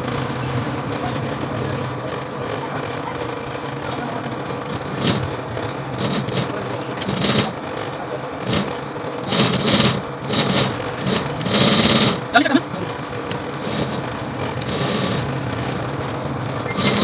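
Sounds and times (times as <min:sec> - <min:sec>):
coil winding machine humming: 0:00.0 - 0:17.0.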